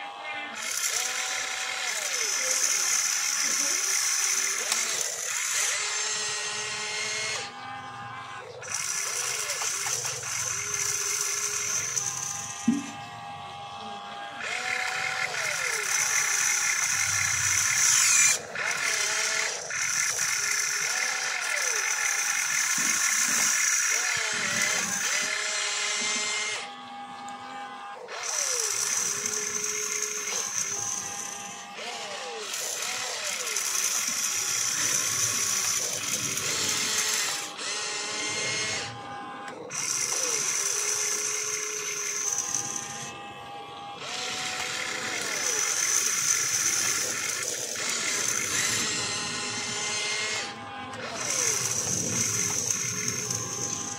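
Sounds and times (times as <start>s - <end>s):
electric motors whining: 0.0s - 53.9s.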